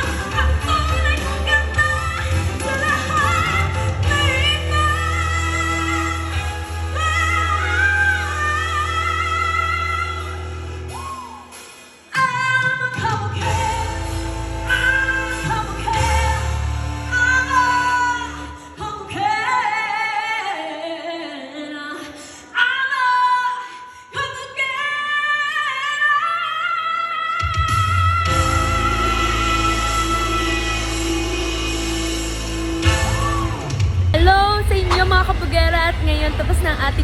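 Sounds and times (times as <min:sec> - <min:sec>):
woman singing with vibrato: 0:00.0 - 0:11.3, 0:12.1 - 0:33.6, 0:34.2 - 0:37.0.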